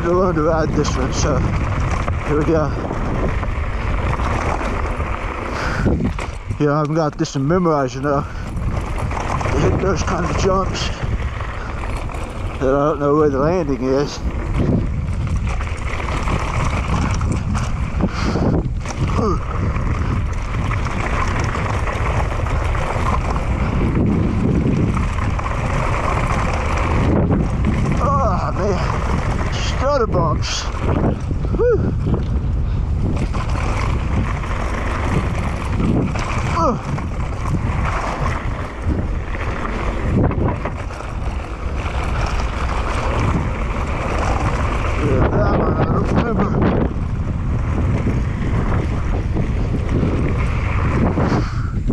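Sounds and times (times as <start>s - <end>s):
bike tyres rolling on dirt: 0.0s - 51.9s
wind buffeting microphone: 0.0s - 51.9s.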